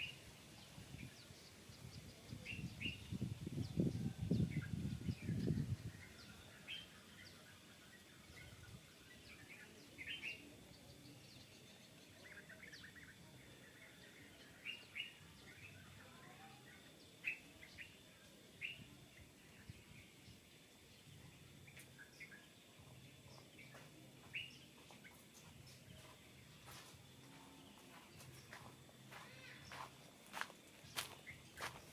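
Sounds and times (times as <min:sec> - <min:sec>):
faint background hiss: 0:00.0 - 0:31.9
small birds chirping: 0:00.0 - 0:31.9.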